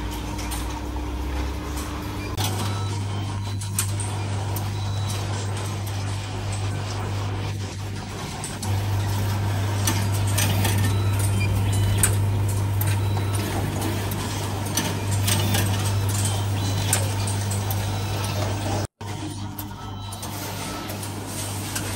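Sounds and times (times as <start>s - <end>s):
packing machine humming: 0.0s - 21.9s.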